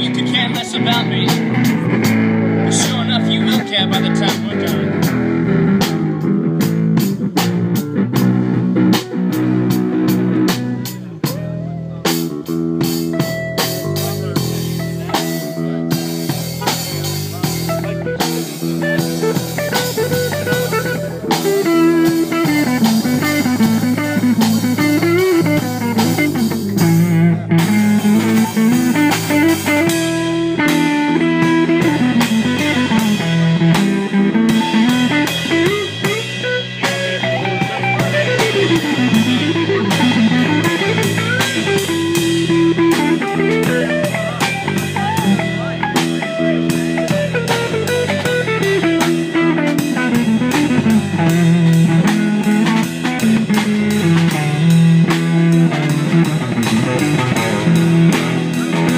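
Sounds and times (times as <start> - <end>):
bass guitar: 0.0 - 58.9
drum kit: 0.0 - 58.9
lead guitar with bent notes: 0.0 - 58.9
rhythm guitar chords: 0.0 - 58.9.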